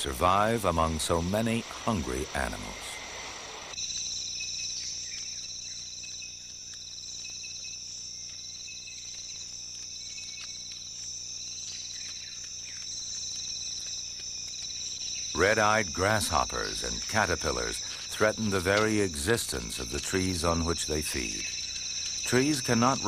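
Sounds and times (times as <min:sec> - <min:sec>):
high insect trill: 0:00.0 - 0:23.0
low pulsing insect chirp: 0:00.0 - 0:23.0.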